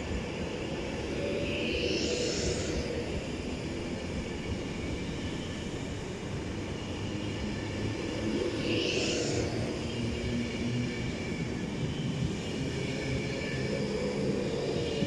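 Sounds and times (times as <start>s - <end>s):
rumble of train wheels on rail: 0.0s - 15.0s.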